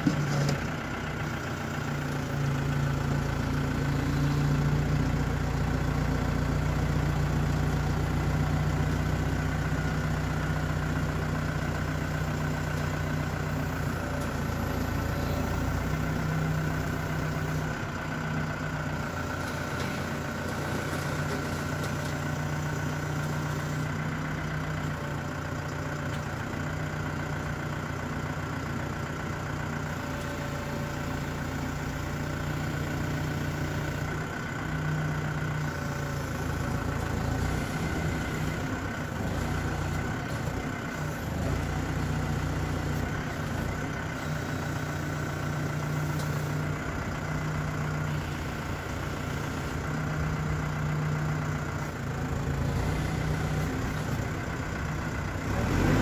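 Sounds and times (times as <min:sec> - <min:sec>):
diesel engine under hydraulic load: 0:00.0 - 0:56.0.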